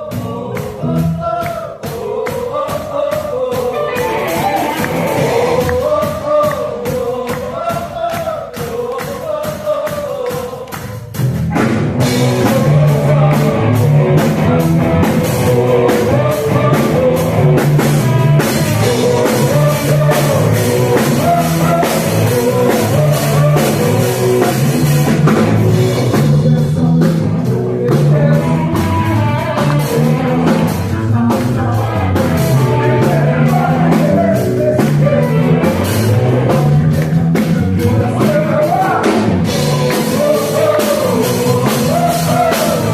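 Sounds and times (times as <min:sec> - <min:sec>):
person singing: 0:00.0 - 0:10.7, 0:12.0 - 0:42.9
rock band playing: 0:03.4 - 0:06.5, 0:11.0 - 0:42.9.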